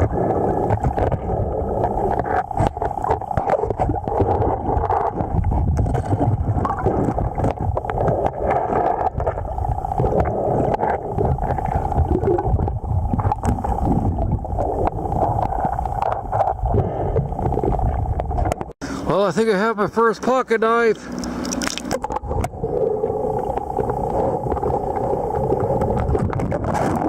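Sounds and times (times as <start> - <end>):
small underwater clicks and knocks: 0.0 - 18.8, 21.2 - 22.6, 23.3 - 27.0
muffled underwater river rush: 0.0 - 27.0.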